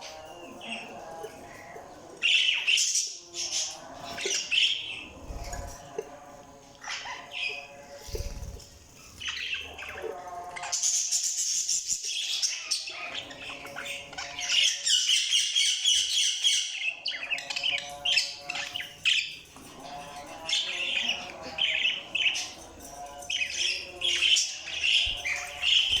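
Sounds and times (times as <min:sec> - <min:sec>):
budgerigars chirping and warbling: 0:00.0 - 0:26.0.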